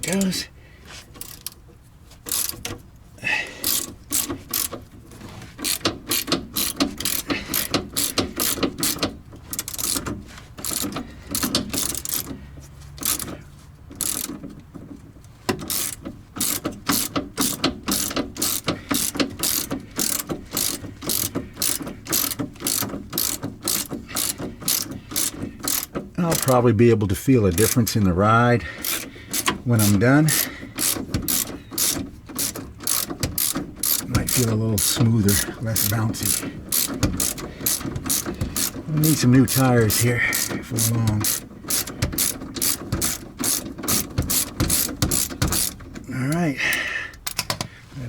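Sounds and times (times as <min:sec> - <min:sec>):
hand ratchet clicking: 0:01.2 - 0:01.6, 0:02.2 - 0:04.9, 0:05.5 - 0:47.7.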